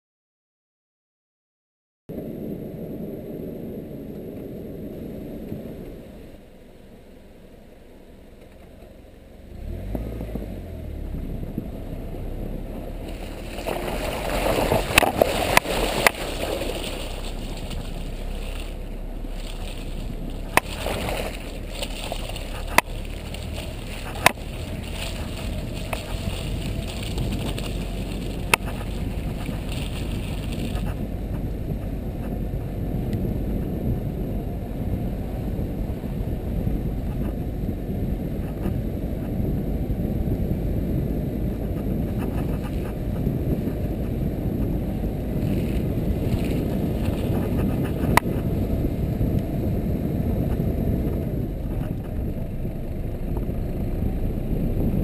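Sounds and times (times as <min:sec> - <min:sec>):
muffled atv engine rumble: 0:02.1 - 0:55.0.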